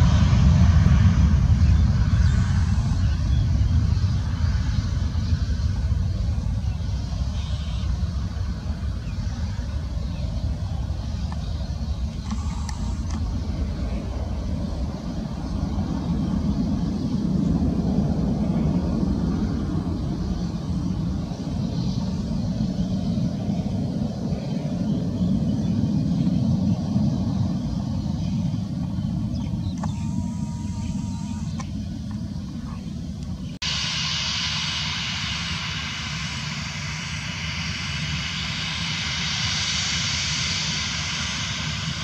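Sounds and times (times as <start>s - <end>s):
jet engines low rumble: 0.0s - 42.0s.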